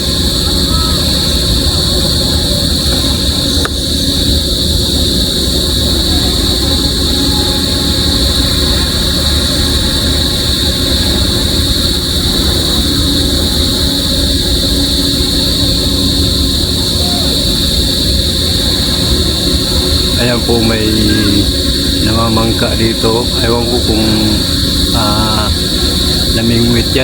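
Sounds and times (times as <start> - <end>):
heavy machinery engine drone: 0.0 - 27.0
high hiss: 0.0 - 27.0.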